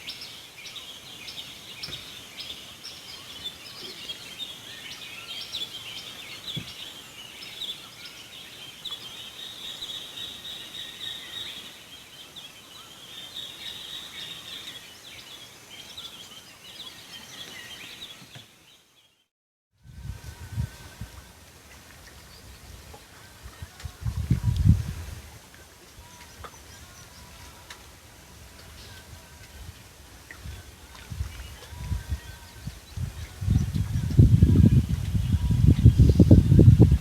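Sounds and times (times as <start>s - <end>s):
birds chirping chorus: 0.0s - 19.3s, 25.4s - 37.0s.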